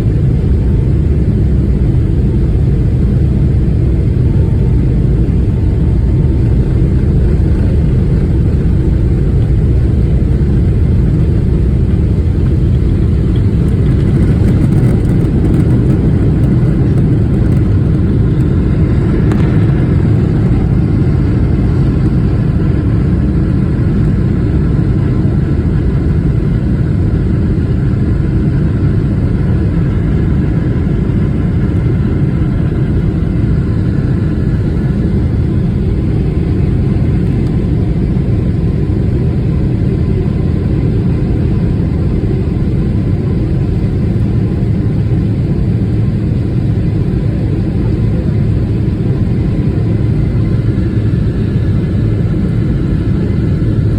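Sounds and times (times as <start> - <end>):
jet engines at takeoff rumbling: 0.0 - 53.9.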